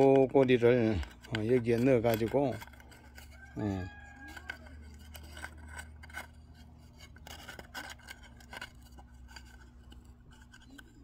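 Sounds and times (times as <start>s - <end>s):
low steady hum: 0.0s - 11.0s
wire scraping against a pot: 0.0s - 11.0s.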